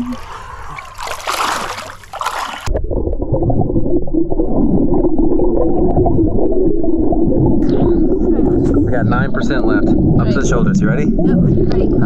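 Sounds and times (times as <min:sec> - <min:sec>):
underwater rumble and gurgle: 0:00.0 - 0:12.0.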